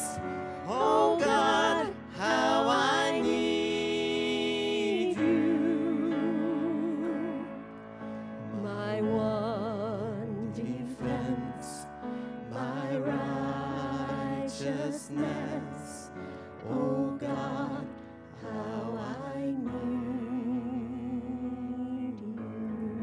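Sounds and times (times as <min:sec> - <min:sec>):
women singing worship song: 0:00.0 - 0:07.6, 0:08.5 - 0:23.0
piano accompaniment: 0:00.0 - 0:23.0.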